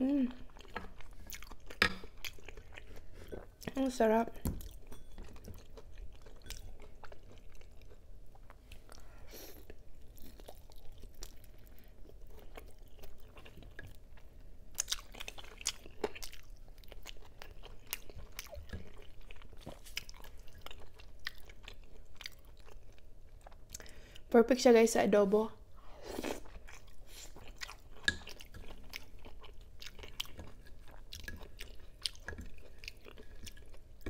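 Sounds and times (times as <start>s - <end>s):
chewing and mouth sounds: 0.0s - 24.3s, 26.1s - 34.0s.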